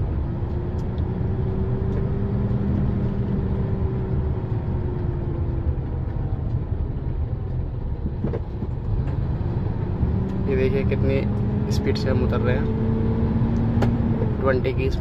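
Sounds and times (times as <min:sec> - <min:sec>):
truck diesel engine and road rumble: 0:00.0 - 0:15.0.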